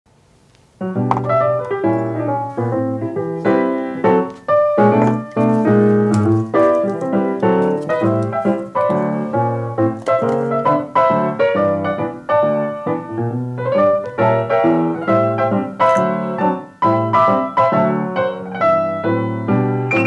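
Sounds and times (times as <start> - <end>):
piano music: 0.8 - 20.0.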